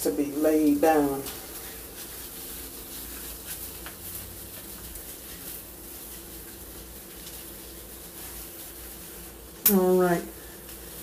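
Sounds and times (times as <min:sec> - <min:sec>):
hands rubbing cream through hair: 0:00.0 - 0:11.0
low background hum: 0:00.0 - 0:11.0.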